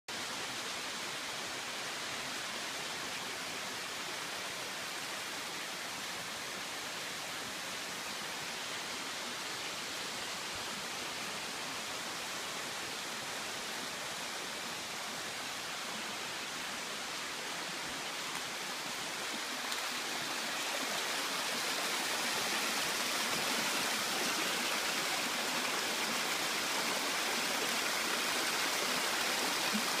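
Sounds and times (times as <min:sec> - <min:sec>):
water cascading over rocks: 0:00.1 - 0:30.0.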